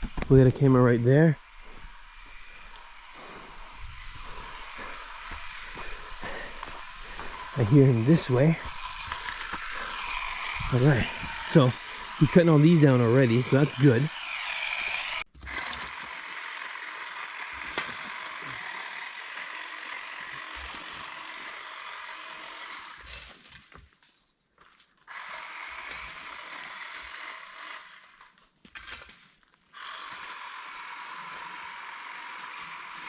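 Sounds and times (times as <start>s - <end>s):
hedge trimmer cutting brush: 0.0s - 23.8s, 25.0s - 29.0s, 29.7s - 33.0s.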